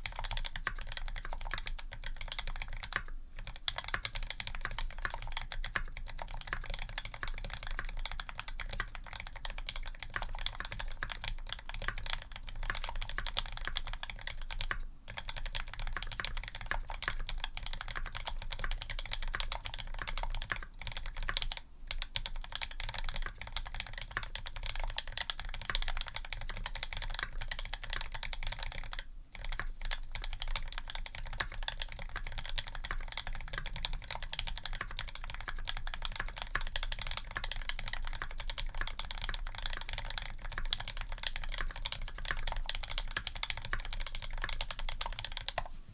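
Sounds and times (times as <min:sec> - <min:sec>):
fast mechanical keyboard typing: 0:00.0 - 0:45.7.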